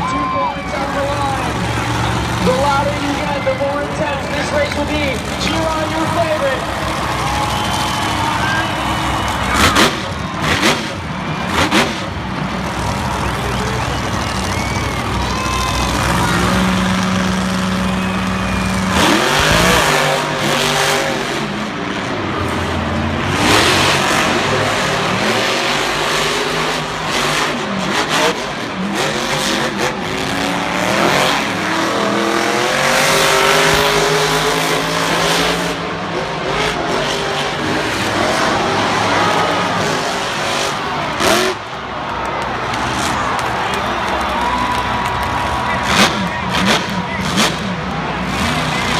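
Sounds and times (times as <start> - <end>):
monster truck engines revving: 0.0 - 48.9.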